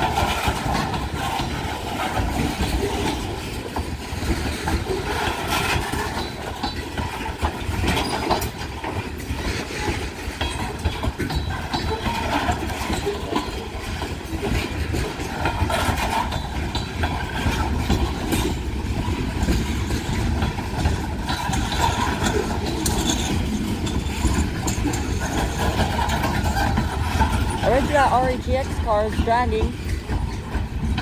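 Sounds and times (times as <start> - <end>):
freight train wheels rumbling: 0.0 - 31.0
wheel clicks and squeaks: 0.0 - 31.0.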